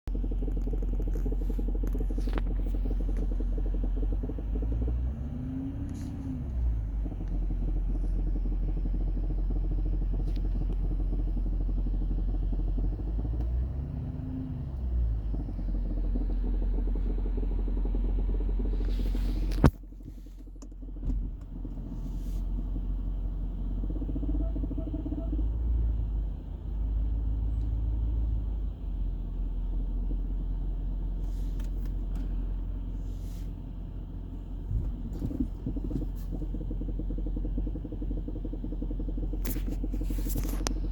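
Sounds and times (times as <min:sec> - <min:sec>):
diesel engine idling: 0:00.0 - 0:40.9
engine revving: 0:00.1 - 0:19.7, 0:21.0 - 0:28.8, 0:32.9 - 0:40.9
engine knocking: 0:00.1 - 0:40.9.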